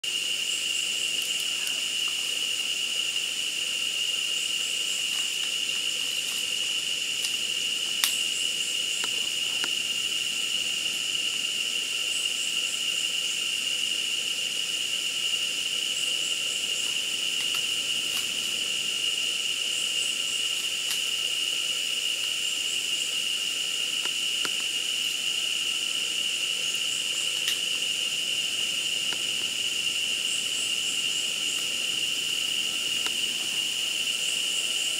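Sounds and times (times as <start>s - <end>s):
faint insect chirps: 0.0s - 34.9s
insect chorus drone: 0.0s - 34.9s.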